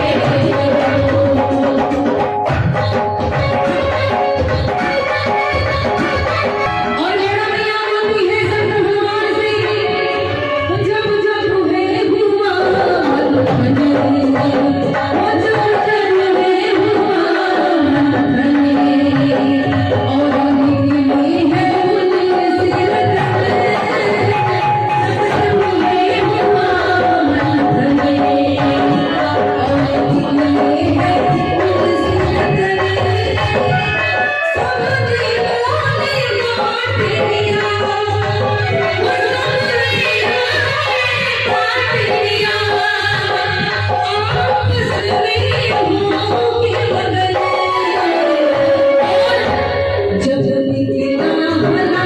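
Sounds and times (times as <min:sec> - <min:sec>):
tabla: 0:00.0 - 0:52.0.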